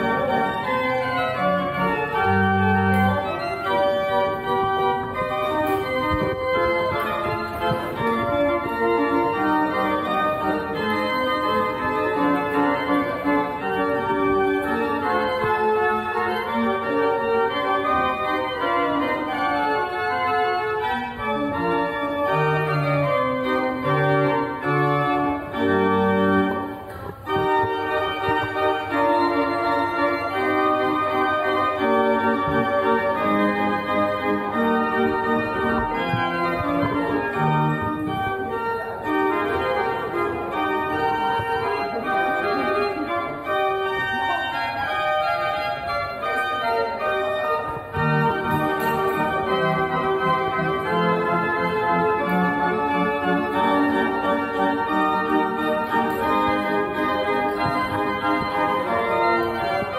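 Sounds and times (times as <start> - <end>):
organ music: 0.0 - 59.9.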